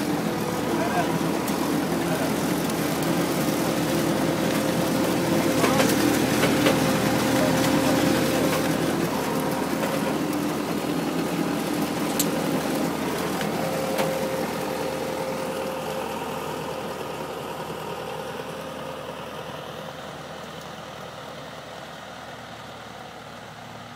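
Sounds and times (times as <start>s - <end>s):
machinery noise: 0.0s - 23.0s
tractor engine running: 0.0s - 23.9s.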